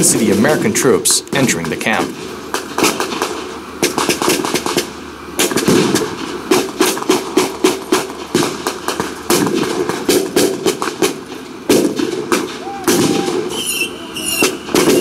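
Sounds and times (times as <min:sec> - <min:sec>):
rifle and machine gun shots: 0:01.3 - 0:15.0.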